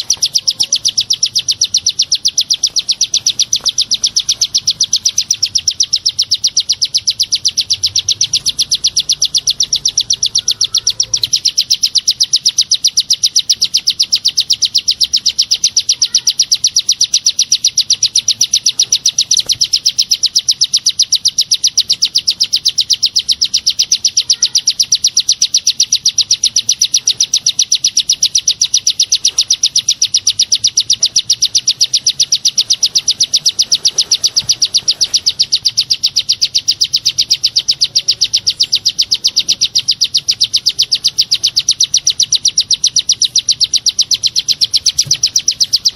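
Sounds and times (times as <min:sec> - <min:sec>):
rapid high bird chirps: 0:00.0 - 0:45.9.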